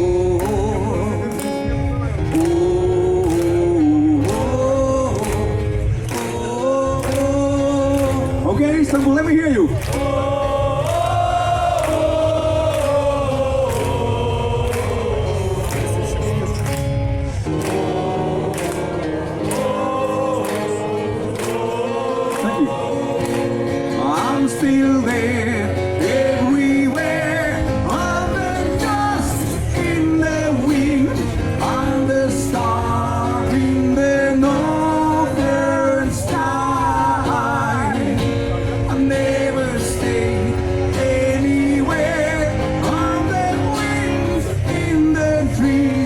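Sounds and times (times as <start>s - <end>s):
audience singing along: 0.0s - 8.6s, 9.6s - 46.0s
acoustic guitar: 0.0s - 46.0s.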